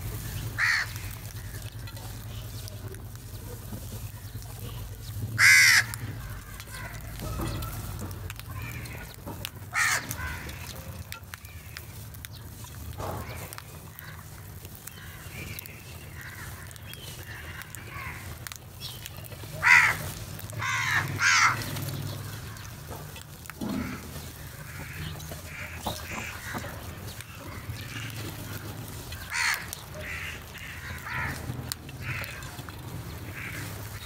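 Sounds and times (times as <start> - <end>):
crows cawing: 0.0 - 3.3, 5.0 - 34.0.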